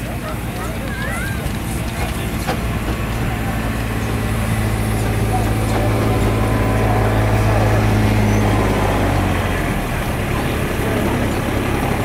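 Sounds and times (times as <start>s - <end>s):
rough mechanical engine noise: 0.0s - 12.0s
steam engine low hum: 0.0s - 12.0s.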